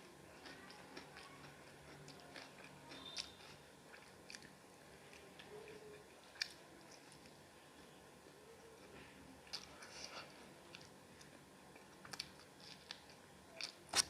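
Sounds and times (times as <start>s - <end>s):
person chewing food: 0.0s - 7.3s, 9.4s - 14.0s.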